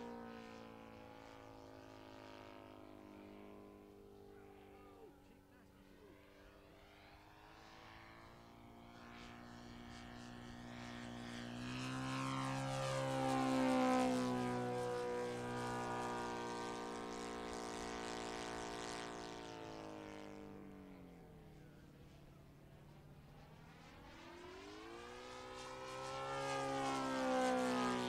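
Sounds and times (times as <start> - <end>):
model plane engine passing: 0.0 - 28.0.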